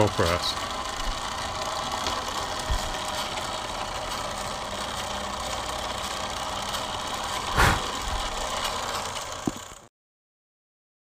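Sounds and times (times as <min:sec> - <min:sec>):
drill press motor humming: 0:00.0 - 0:09.9.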